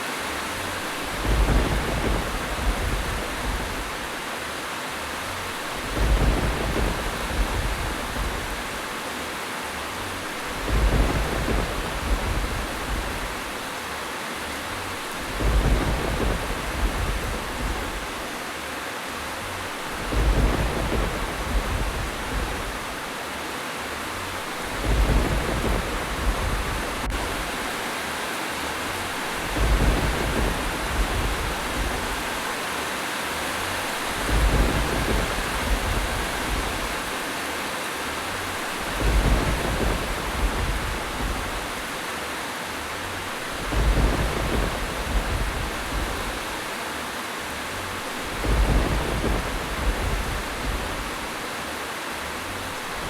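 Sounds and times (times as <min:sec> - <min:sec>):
steady rain: 0:00.0 - 0:53.0
thunder rumbles: 0:00.4 - 0:04.4, 0:05.1 - 0:09.1, 0:09.8 - 0:13.8, 0:14.5 - 0:18.5, 0:19.2 - 0:23.3, 0:23.9 - 0:27.9, 0:28.6 - 0:32.8, 0:33.4 - 0:37.4, 0:38.1 - 0:53.0.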